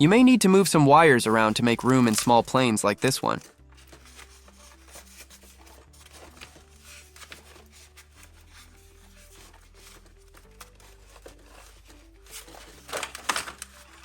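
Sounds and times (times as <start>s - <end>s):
soft background music: 0.0s - 14.0s
rubbing and rustling of wires: 1.0s - 14.0s.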